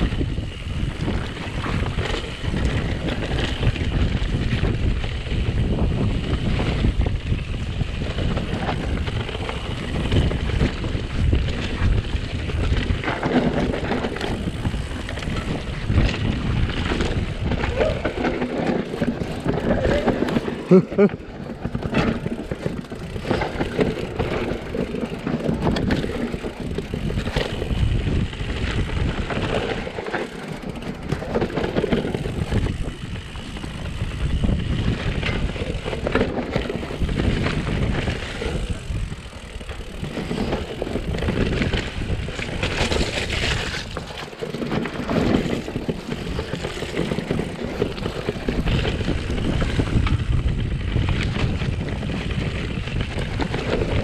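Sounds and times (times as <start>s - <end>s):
bike rattling over bumps: 0.0s - 54.0s
bike tyre noise on dirt: 0.0s - 54.0s.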